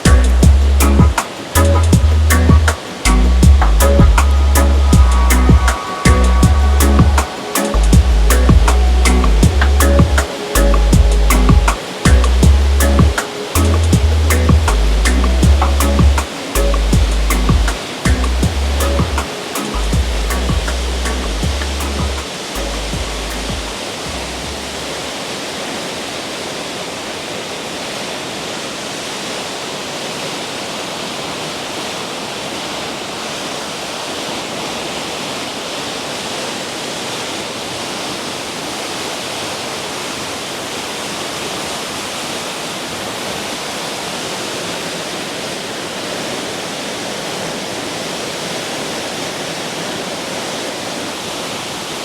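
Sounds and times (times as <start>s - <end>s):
waterfall splashing: 0.0s - 52.0s.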